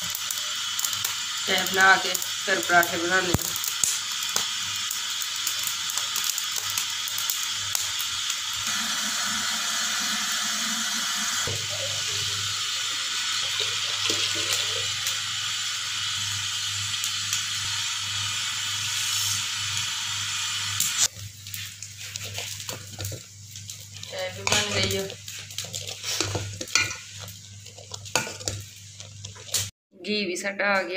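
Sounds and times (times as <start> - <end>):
pot hissing over fire: 0.0 - 29.7.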